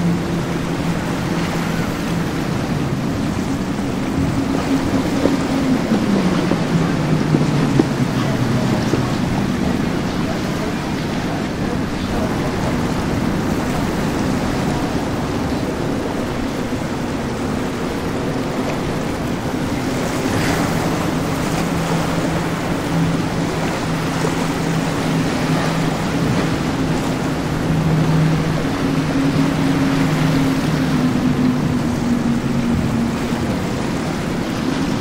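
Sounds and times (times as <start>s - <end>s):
powerboat engines droning: 0.0s - 35.0s
wake and spray rushing: 0.0s - 35.0s.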